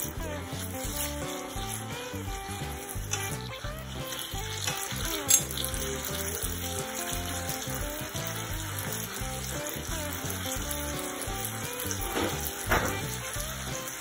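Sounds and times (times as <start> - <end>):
background music: 0.0 - 14.0
spaghetti sizzling in frying pan: 0.0 - 14.0.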